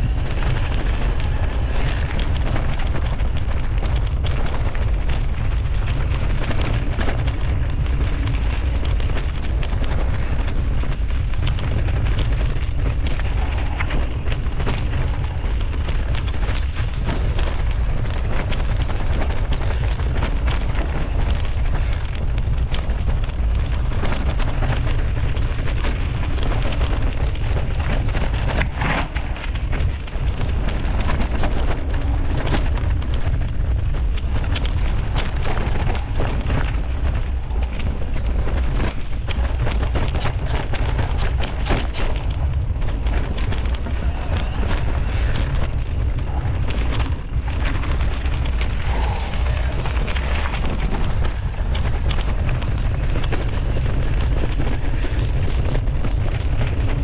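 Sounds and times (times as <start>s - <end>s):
bike rattling: 0.0s - 57.0s
tyres crackling over gravel: 0.0s - 57.0s
wind rumble on microphone: 0.0s - 57.0s.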